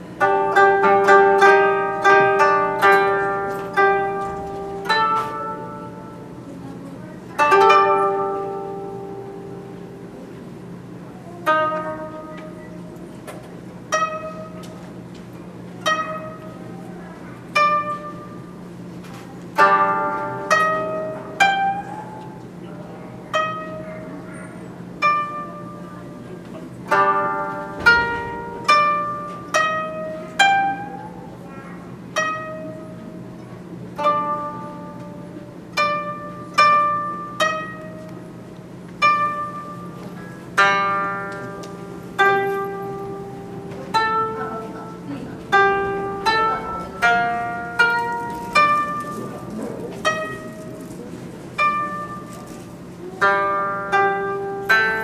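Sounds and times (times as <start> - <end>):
koto plucked notes: 0.0 - 55.0.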